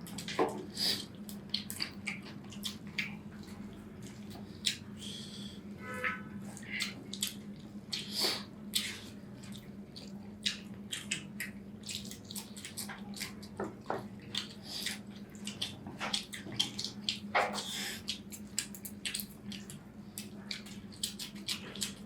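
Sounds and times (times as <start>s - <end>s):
steady low hum: 0.0s - 22.0s
wet chewing smacks: 0.2s - 4.9s, 6.6s - 13.6s, 14.2s - 22.0s.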